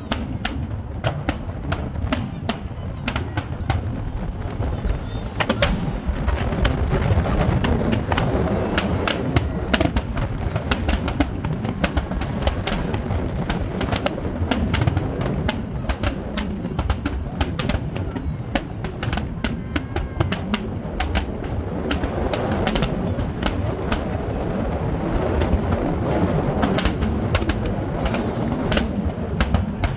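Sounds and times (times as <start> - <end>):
fireworks crackling and popping: 0.0 - 29.9.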